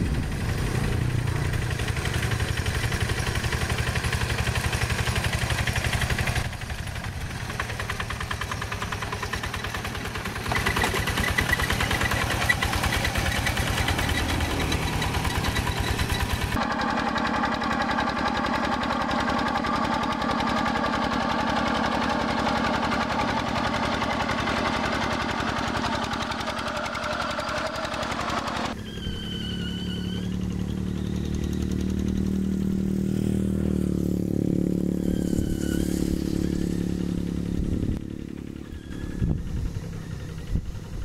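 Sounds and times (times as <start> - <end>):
duller tractor engine: 0.0 - 41.0
hand tractor diesel engine: 0.0 - 41.0.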